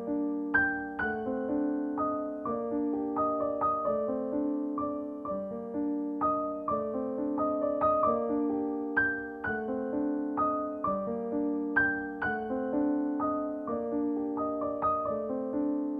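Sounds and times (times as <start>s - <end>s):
soft piano music: 0.0s - 15.9s.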